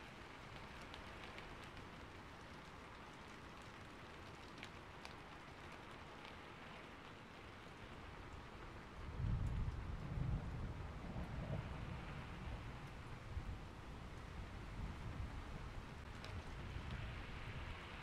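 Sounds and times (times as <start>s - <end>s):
faint raindrop ticks: 0.0s - 18.0s
steady rain hiss: 0.0s - 18.0s.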